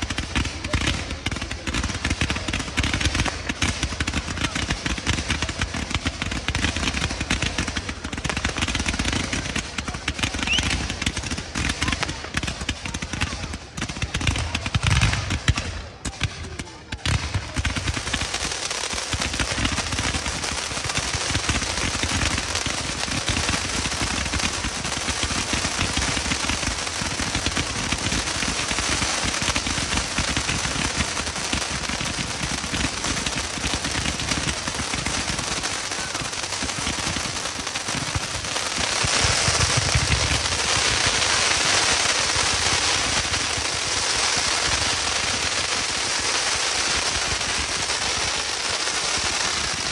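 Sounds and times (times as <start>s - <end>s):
fireworks barrage and crackle: 0.0s - 49.9s
fireworks heavy bangs: 0.0s - 49.9s.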